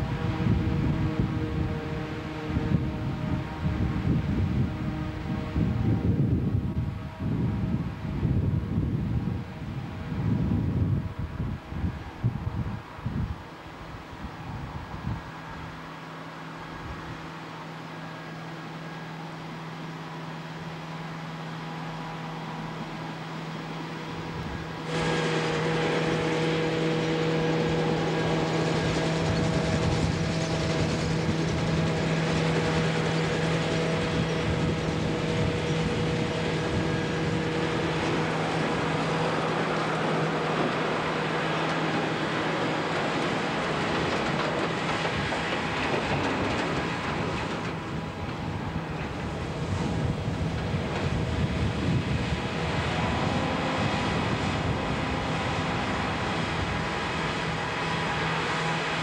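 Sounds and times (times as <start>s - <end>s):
diesel engine and machinery noise: 0.0s - 59.0s
steady machinery whine: 0.0s - 59.0s.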